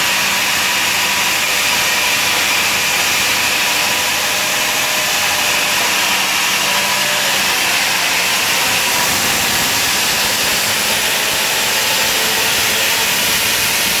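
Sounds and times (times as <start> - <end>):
power tool cutting concrete: 0.0 - 14.0.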